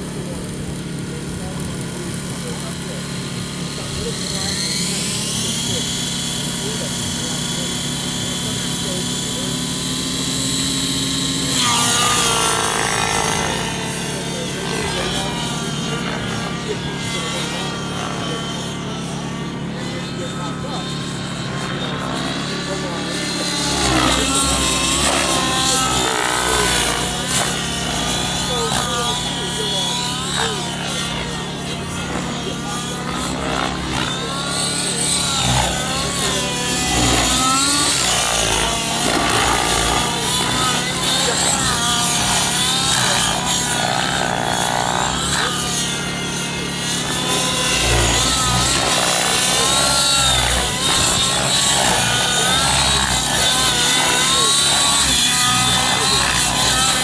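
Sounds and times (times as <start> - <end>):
model helicopter engine and rotor: 0.0 - 57.0.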